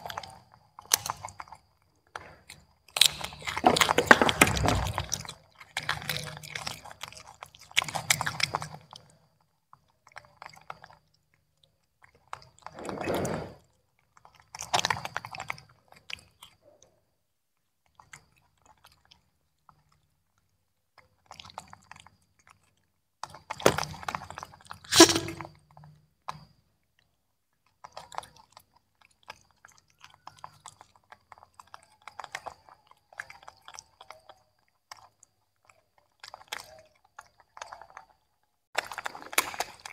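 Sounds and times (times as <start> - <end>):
monkeys chewing and crunching: 0.0 - 12.8, 13.9 - 17.1, 17.8 - 39.9.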